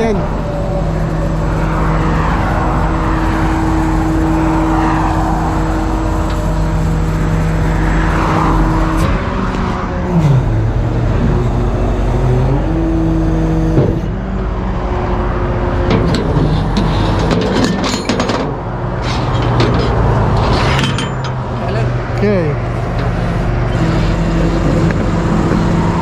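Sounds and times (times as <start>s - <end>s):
freeway traffic passing: 0.0s - 26.0s
tow truck engine running: 0.0s - 26.0s.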